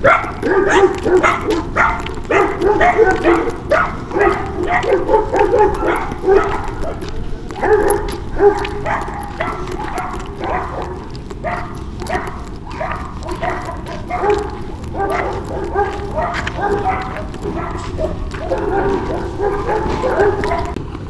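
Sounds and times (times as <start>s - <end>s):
dog barking and yipping: 0.0s - 20.8s.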